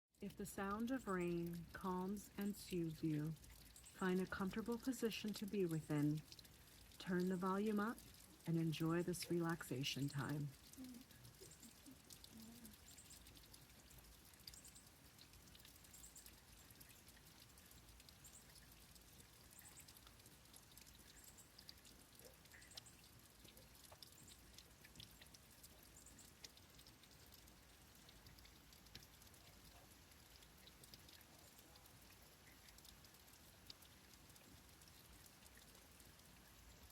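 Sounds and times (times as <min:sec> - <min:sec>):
light rain pattering: 0:00.1 - 0:36.9.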